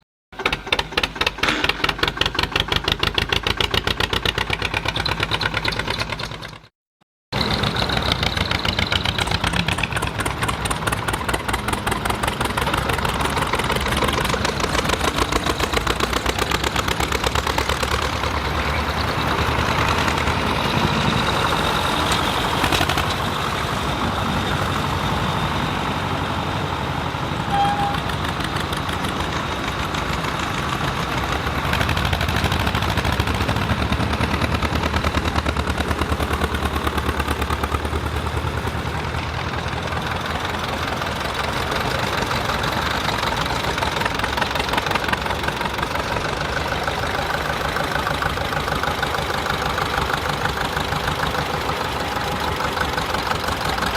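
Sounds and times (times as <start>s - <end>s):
tractor diesel engines running: 0.3s - 6.7s, 7.3s - 53.9s.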